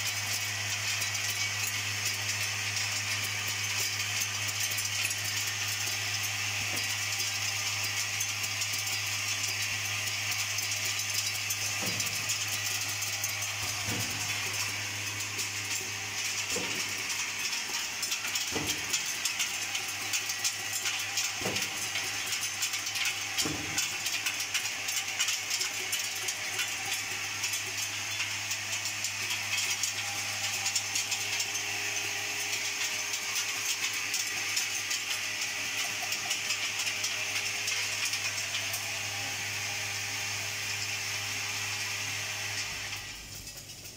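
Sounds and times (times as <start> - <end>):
machine hum and hiss: 0.0 - 43.9.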